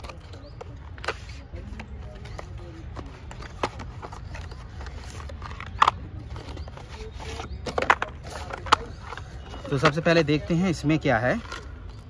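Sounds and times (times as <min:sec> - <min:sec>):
sharp clicks and scuffs: 0:00.0 - 0:10.6
cardboard rustling and scraping: 0:00.0 - 0:12.0.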